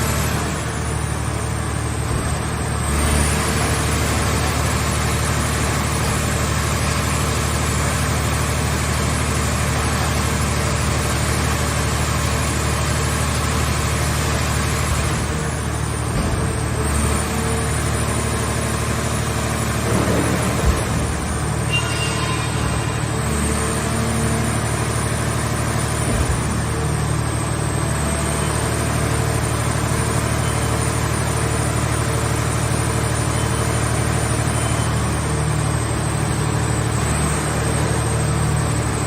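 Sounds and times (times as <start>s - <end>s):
baler engine and pump drone: 0.0s - 39.0s.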